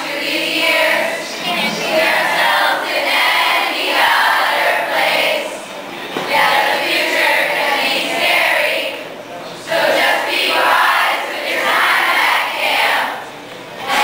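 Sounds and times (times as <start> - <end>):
girls singing in unison: 0.0 - 13.2, 13.8 - 14.0.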